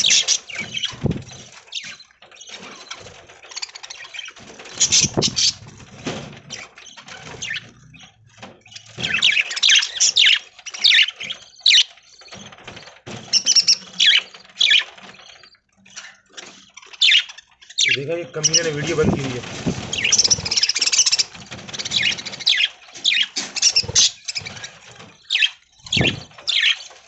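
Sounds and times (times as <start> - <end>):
budgerigars chirping and chattering: 0.0 - 27.0.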